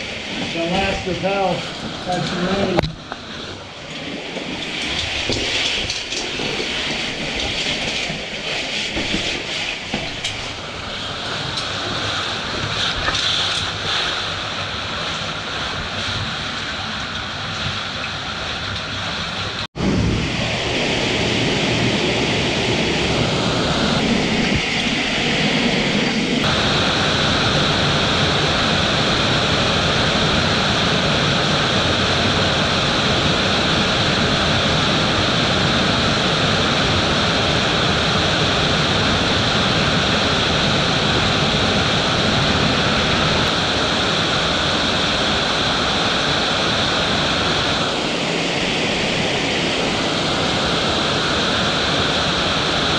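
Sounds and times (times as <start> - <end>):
underground stream cascading: 0.0 - 52.9.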